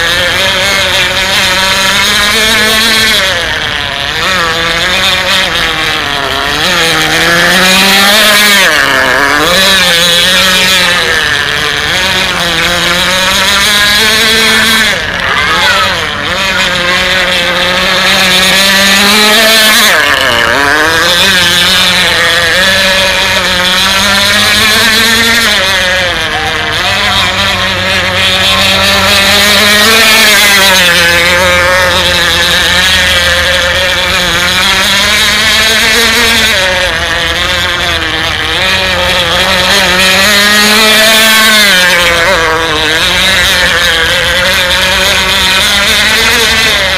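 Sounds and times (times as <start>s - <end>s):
model boat engine at high revs: 0.0s - 46.9s.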